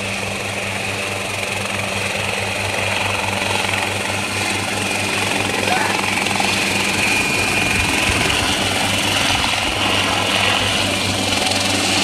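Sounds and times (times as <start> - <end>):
helicopter engine drone: 0.0 - 12.0
helicopter rotor beat: 0.0 - 12.0.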